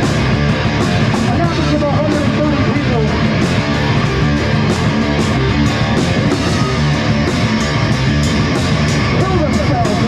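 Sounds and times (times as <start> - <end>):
rock band playing: 0.0 - 10.0.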